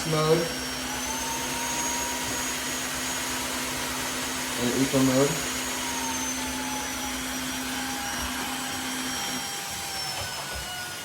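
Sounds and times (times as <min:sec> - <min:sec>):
floor vacuum motor whine: 0:00.0 - 0:11.0.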